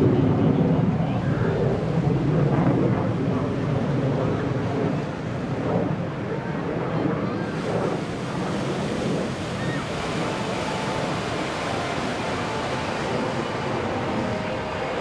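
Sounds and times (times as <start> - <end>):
jet fighter flying overhead: 0.0 - 15.0.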